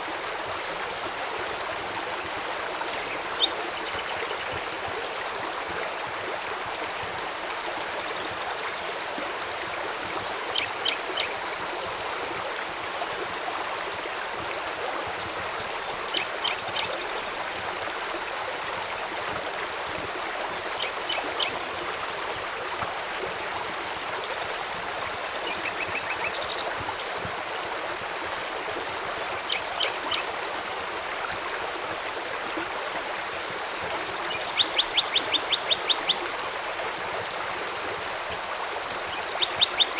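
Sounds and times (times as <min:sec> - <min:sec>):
rain: 0:00.0 - 0:39.9
river flowing: 0:00.0 - 0:39.9.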